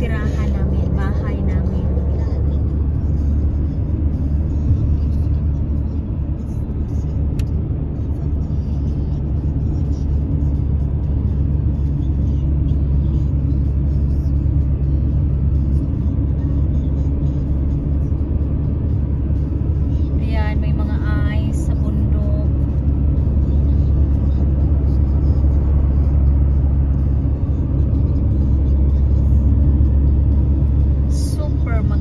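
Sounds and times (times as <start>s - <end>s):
car engine and tyres rumbling: 0.0s - 32.0s.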